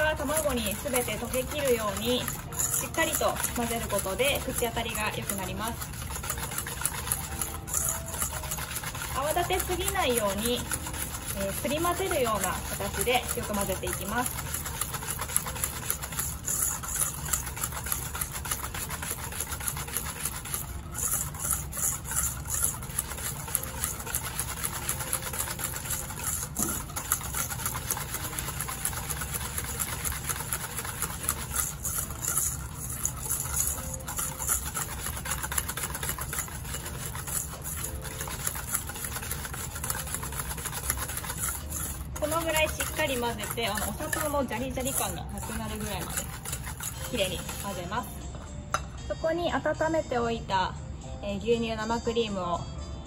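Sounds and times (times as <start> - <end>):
wire whisk beating in metal bowl: 0.0 - 48.9.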